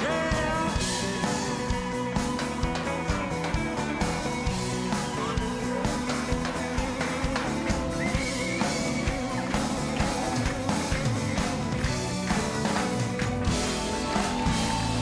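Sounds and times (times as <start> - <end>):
drum kit beat: 0.0 - 15.0
electric guitars: 0.0 - 15.0.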